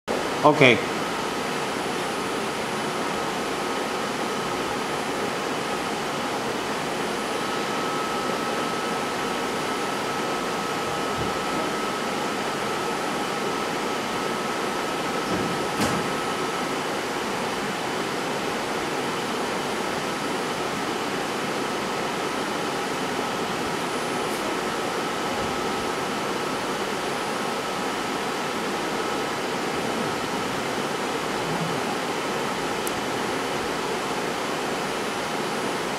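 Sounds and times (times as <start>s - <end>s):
fan-like whirring: 0.1s - 35.9s.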